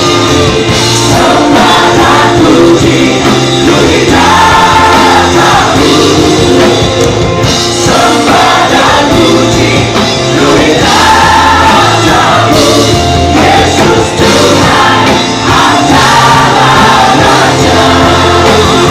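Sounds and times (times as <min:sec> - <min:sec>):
band playing: 0:00.0 - 0:18.9
group singing gospel song: 0:00.0 - 0:18.9.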